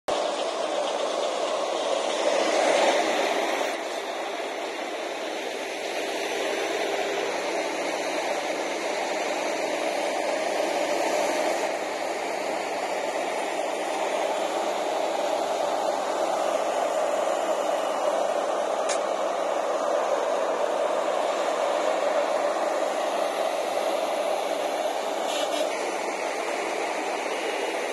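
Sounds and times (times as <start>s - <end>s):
diesel engine running: 0.1s - 27.9s
hissing noise: 0.1s - 27.9s.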